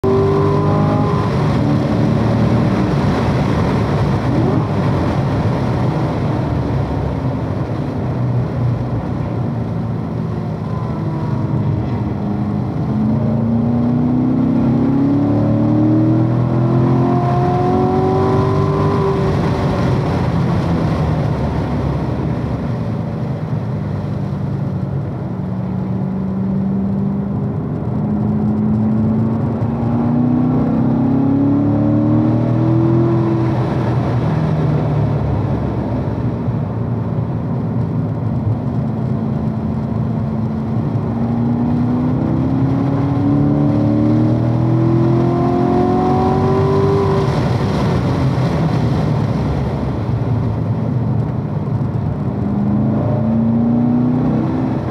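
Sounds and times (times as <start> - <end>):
car engine at speed: 0.0 - 54.9.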